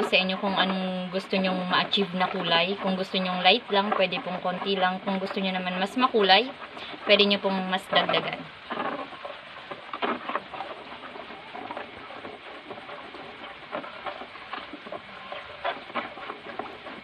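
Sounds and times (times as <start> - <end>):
hand stirring wet batter: 0.0 - 17.0.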